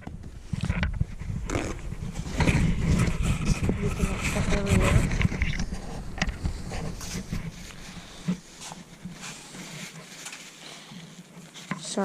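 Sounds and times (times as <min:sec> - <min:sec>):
plastic parts clicking and rubbing: 0:00.0 - 0:01.6, 0:02.2 - 0:12.0.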